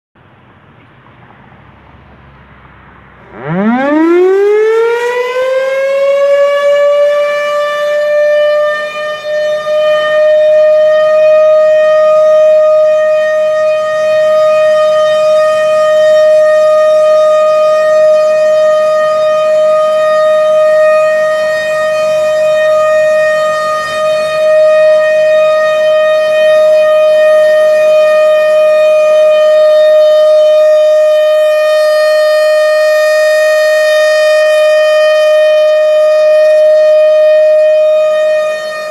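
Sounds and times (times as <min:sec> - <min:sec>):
rotating warning siren steady tone: 0:01.6 - 0:38.9.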